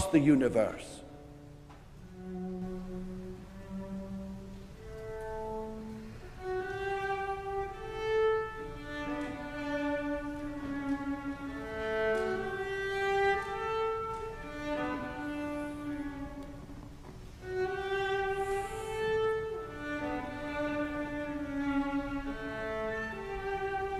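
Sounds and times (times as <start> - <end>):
solo cello bowing: 0.0 - 23.9.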